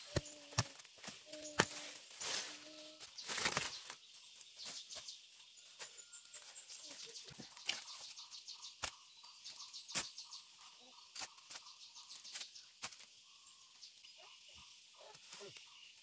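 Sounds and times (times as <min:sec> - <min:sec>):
birds chirping: 0:00.0 - 0:16.0
insects chirping: 0:00.0 - 0:16.0.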